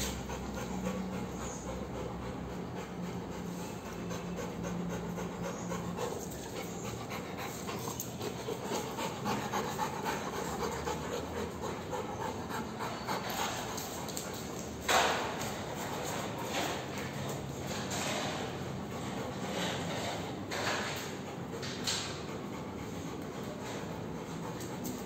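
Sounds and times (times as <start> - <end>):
dogs panting: 0.0 - 25.0.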